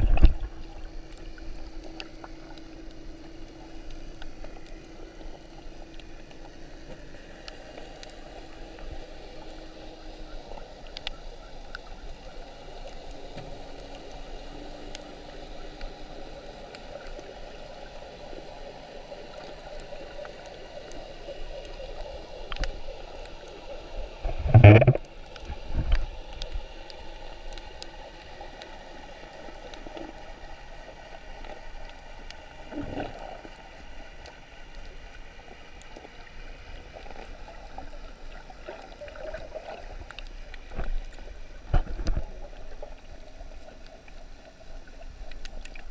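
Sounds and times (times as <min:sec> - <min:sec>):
muffled underwater rush of water: 0:00.0 - 0:45.9.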